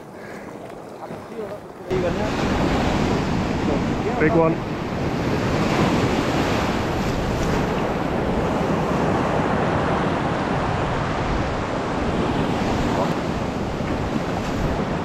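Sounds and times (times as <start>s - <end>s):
sea surf washing on rocks: 0.0s - 15.0s
wind buffeting microphone: 0.0s - 15.0s.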